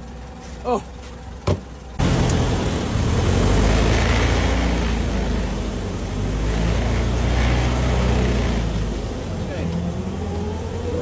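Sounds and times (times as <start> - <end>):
old car engine running: 0.0 - 11.0.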